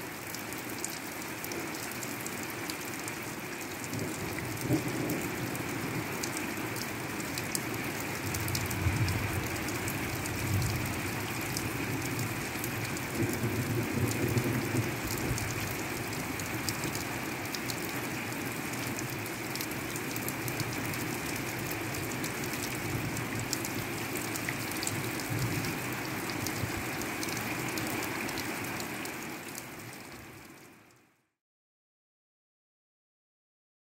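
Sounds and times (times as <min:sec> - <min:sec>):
rain ticking on hard surface: 0:00.0 - 0:31.2.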